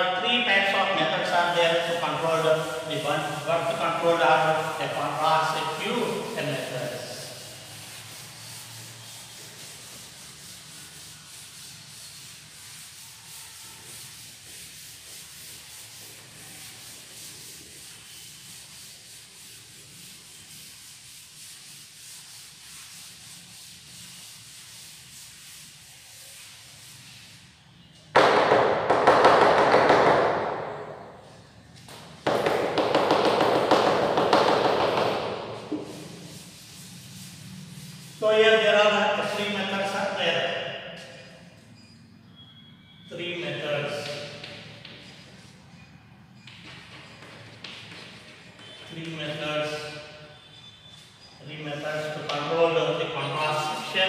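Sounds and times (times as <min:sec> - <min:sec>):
chalkboard being wiped: 0:00.6 - 0:28.2, 0:30.3 - 0:40.3, 0:43.6 - 0:45.7, 0:46.8 - 0:54.0.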